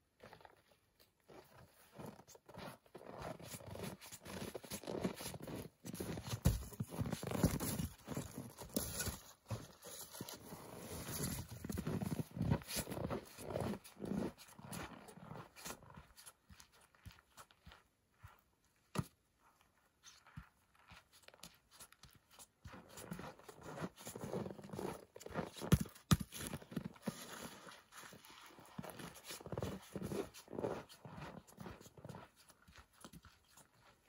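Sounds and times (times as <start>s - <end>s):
footsteps crunching in snow: 0.2s - 18.4s, 19.0s - 34.0s.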